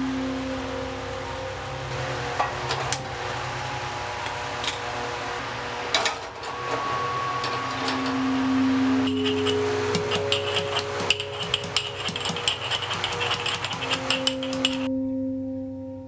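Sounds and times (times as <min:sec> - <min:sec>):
steady hum: 0:00.0 - 0:15.8.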